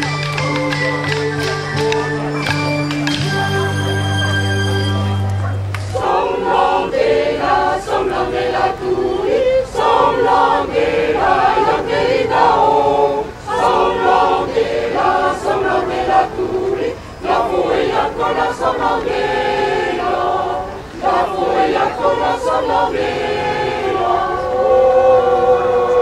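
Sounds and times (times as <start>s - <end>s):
choir singing: 0.8s - 26.0s.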